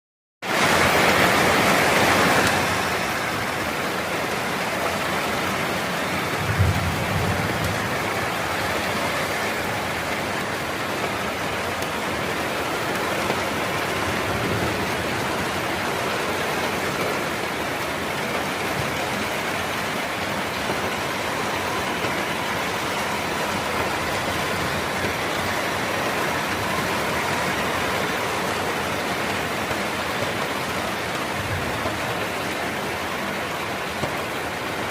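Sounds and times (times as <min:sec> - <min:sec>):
rain on a roof: 0:00.4 - 0:34.9.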